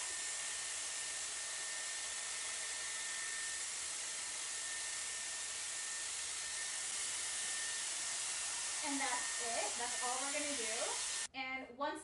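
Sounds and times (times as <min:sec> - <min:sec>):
hair dryer brush blowing air: 0:00.0 - 0:11.3.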